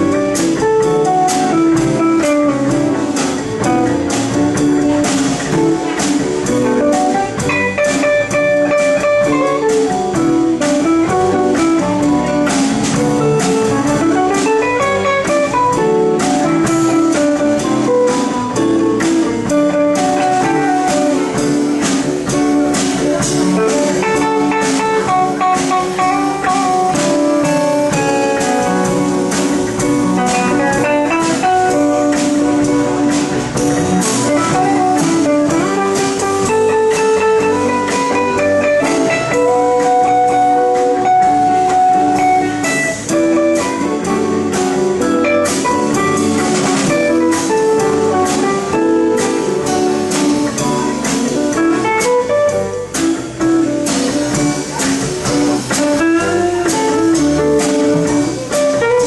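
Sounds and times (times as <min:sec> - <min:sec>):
bass: 0:00.0 - 0:59.0
drum kit with cymbal strokes: 0:00.0 - 0:59.0
electric guitar lines: 0:00.0 - 0:59.0.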